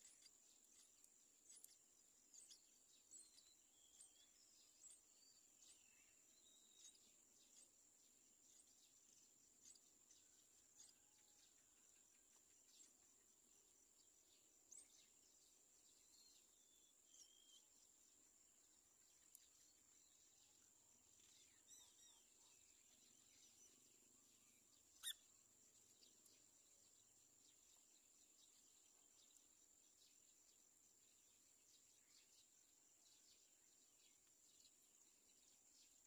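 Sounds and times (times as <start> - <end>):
bird chirps: 0.0 - 36.0.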